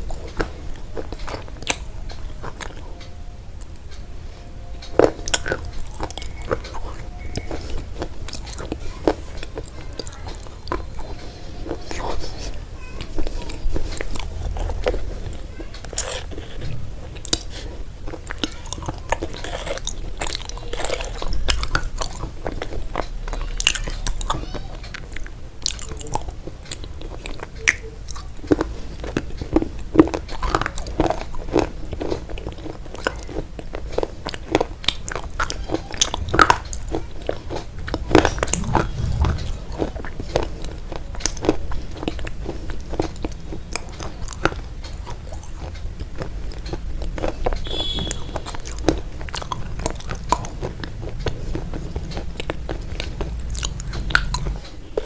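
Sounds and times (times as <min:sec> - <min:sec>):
person chewing crunchy food: 0:00.0 - 0:04.1, 0:04.8 - 0:55.0.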